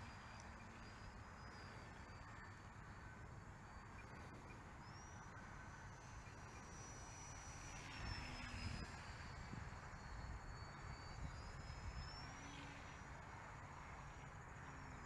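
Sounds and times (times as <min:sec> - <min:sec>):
model airplane motor whine: 0:00.0 - 0:15.0
wind rumble on microphone: 0:00.0 - 0:15.0.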